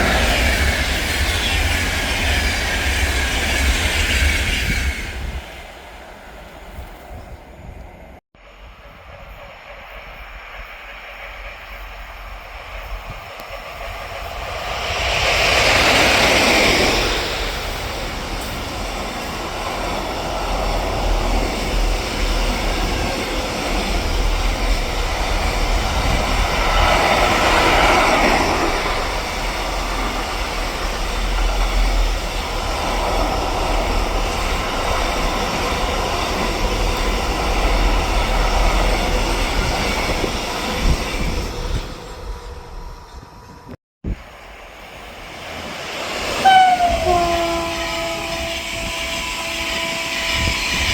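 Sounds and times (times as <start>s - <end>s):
train wheels rolling on rail: 0.0s - 50.9s.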